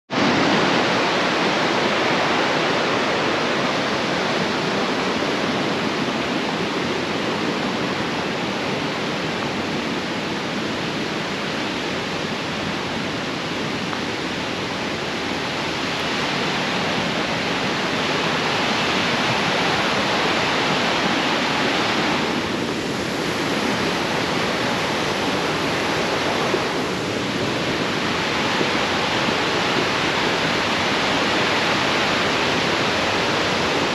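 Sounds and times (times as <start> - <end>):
river rushing over rapids: 0.1 - 33.9.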